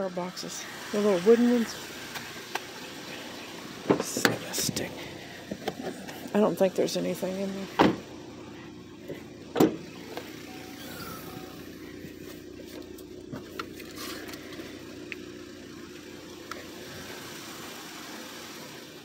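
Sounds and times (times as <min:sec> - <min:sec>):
car idling: 0:00.0 - 0:19.0.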